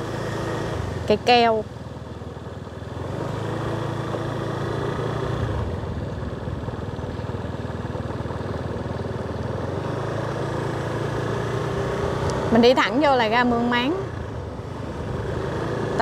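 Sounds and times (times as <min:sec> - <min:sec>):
motorbike engine running: 0:00.0 - 0:16.0
road noise: 0:00.0 - 0:16.0.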